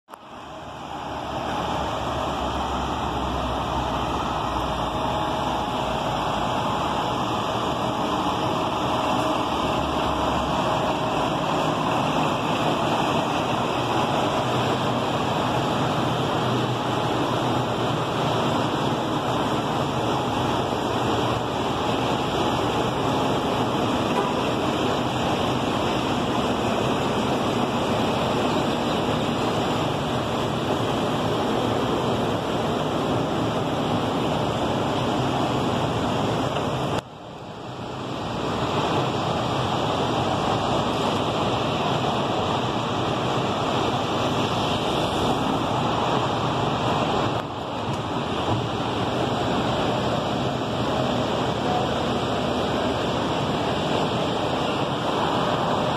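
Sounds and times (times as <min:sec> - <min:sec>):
buses idling: 0:00.1 - 0:55.9
street traffic: 0:00.1 - 0:55.9.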